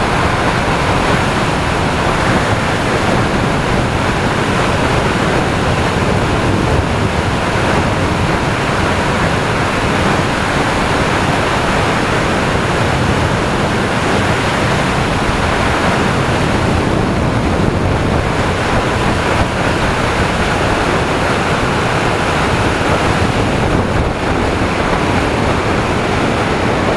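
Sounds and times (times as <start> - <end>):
wind rushing on microphone: 0.0 - 26.9.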